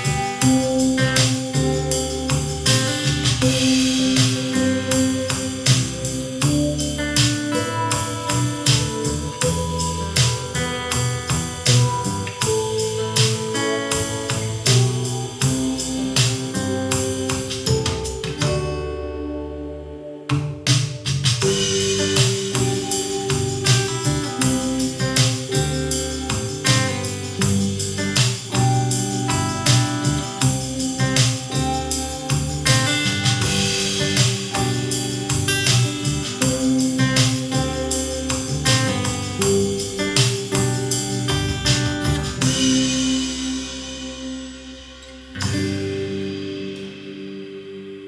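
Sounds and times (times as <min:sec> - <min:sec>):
instrumental music over speakers: 0:00.0 - 0:48.0.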